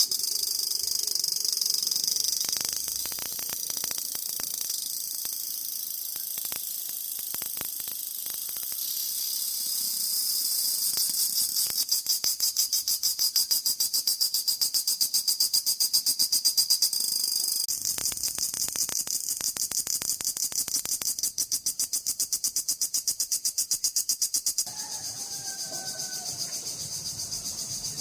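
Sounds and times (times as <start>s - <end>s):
cicadas buzzing: 0.0s - 28.0s.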